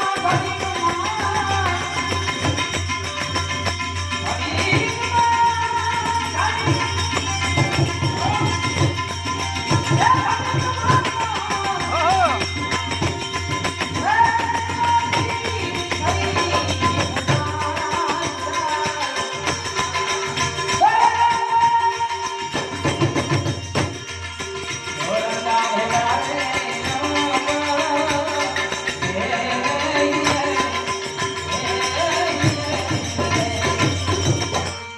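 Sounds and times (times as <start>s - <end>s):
fast jingling percussion: 0.0s - 34.9s.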